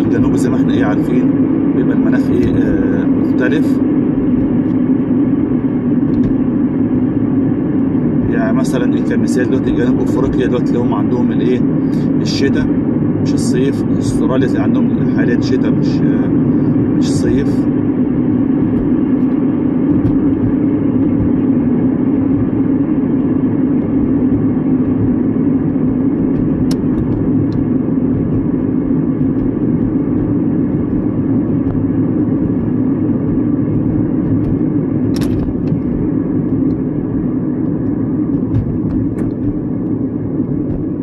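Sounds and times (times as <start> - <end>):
car cabin road and engine hum: 0.0 - 41.0.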